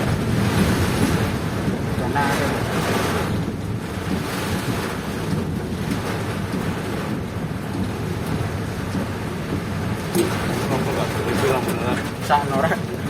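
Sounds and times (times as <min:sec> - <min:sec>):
heavy rain: 0:00.0 - 0:13.0
wind buffeting microphone: 0:00.0 - 0:13.0.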